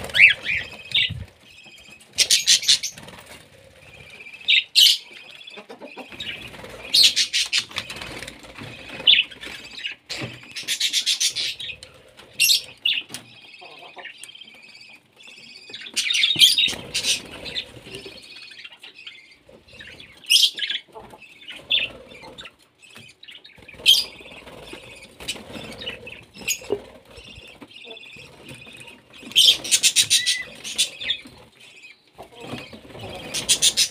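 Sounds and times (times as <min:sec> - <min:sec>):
small parrots chirping: 0:00.0 - 0:33.9.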